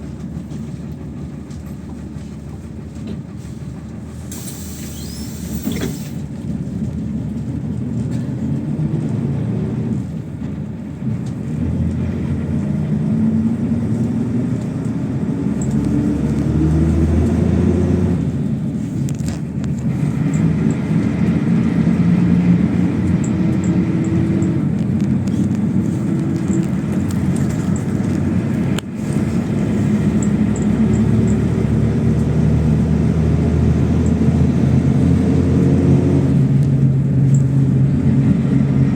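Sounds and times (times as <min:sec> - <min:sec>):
bus engine revving: 0:00.0 - 0:38.9
road rumble: 0:00.0 - 0:38.9.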